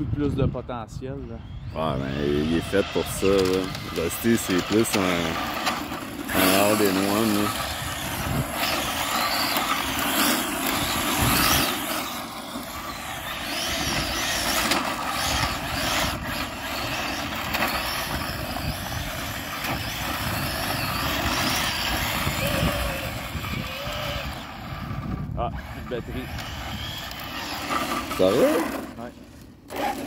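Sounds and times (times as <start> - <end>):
electric rc car motor whine: 1.3 - 30.0.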